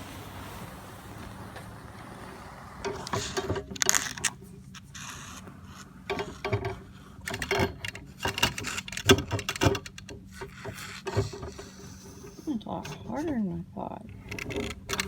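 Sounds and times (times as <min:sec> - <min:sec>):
pole scraping inside wall: 0:00.0 - 0:13.5.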